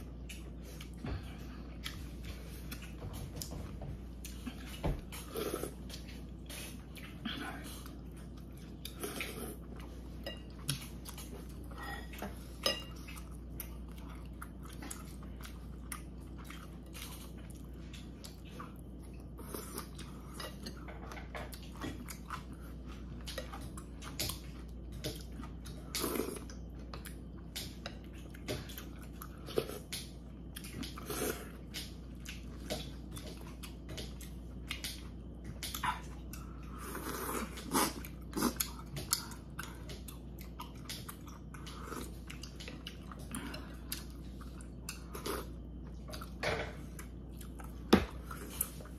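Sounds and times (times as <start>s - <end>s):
chewing and slurping: 0.0s - 48.9s.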